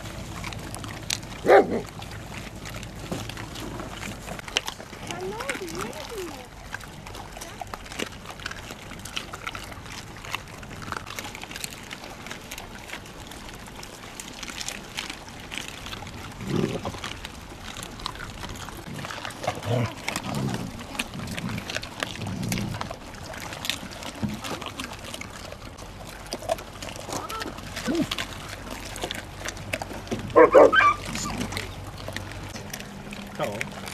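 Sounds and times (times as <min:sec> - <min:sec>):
dogs crunching bones: 0:00.0 - 0:33.9
dogs growling: 0:00.0 - 0:33.9.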